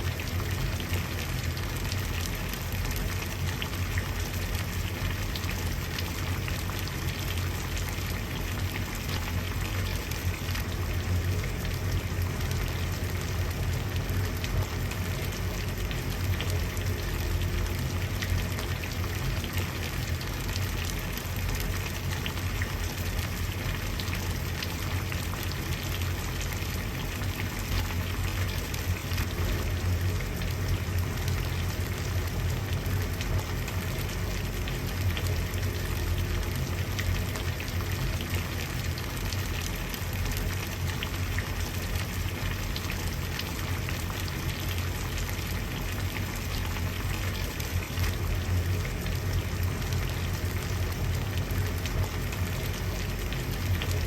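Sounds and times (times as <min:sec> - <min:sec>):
water boiling and bubbling: 0:00.0 - 0:54.0.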